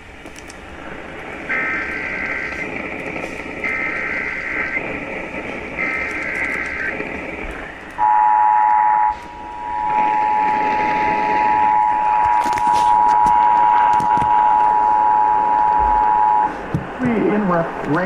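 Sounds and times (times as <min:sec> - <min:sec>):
radio hiss: 0:00.0 - 0:18.0.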